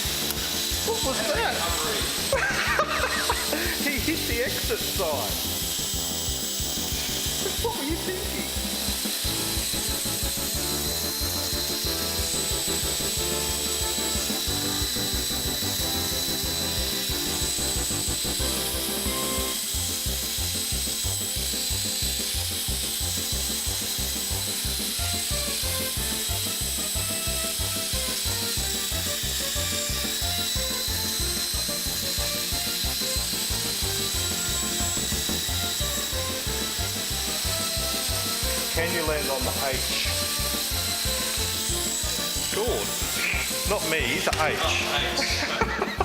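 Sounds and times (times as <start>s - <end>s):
rc helicopter rotors whirring: 0.0s - 46.0s.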